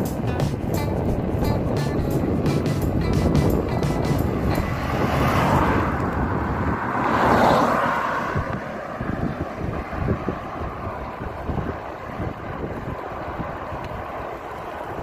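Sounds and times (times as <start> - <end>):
road noise: 0.0 - 15.0
vehicle passing: 0.0 - 15.0
wind buffeting microphone: 0.0 - 15.0.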